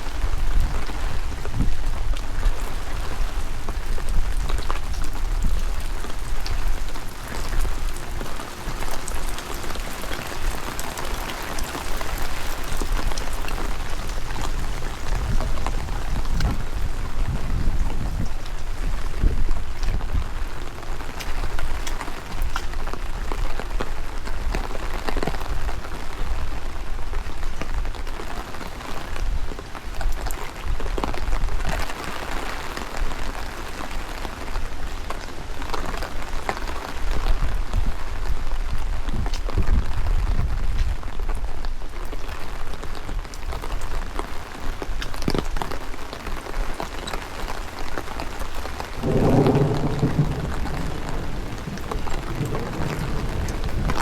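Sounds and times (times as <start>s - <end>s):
wind buffeting microphone: 0.0s - 28.2s, 37.0s - 45.7s, 46.3s - 54.0s
heavy rain pattering: 0.0s - 54.0s.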